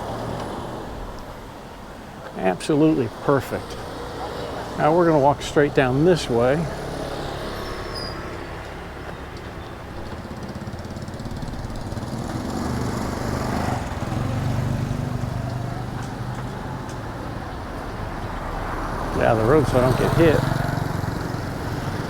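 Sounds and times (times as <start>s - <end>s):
vehicle engine passing by: 2.6s - 22.0s.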